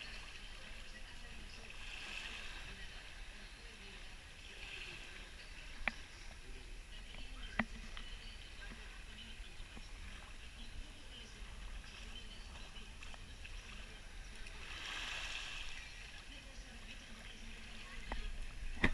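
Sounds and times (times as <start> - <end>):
soft wash of shallow water: 0.0 - 18.9.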